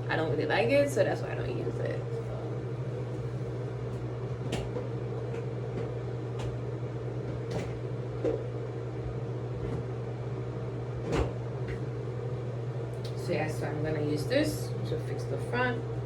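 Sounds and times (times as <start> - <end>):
electrical appliance low hum: 0.0 - 16.0.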